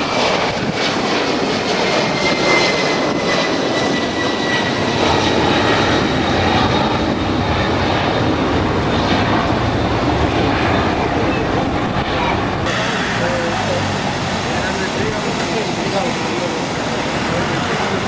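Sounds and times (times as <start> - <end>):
high engine whine: 0.0 - 18.0
jet engines roaring: 0.0 - 18.0.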